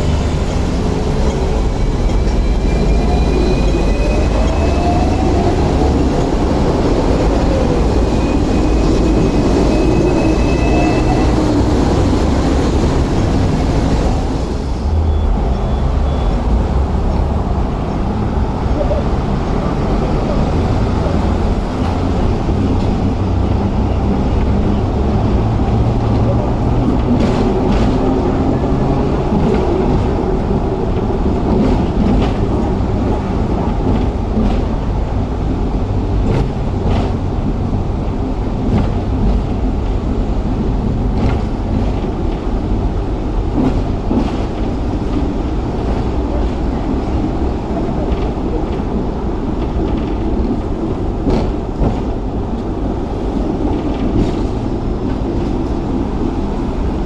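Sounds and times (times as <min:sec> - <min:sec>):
tram wheels rumbling: 0:00.0 - 0:57.0.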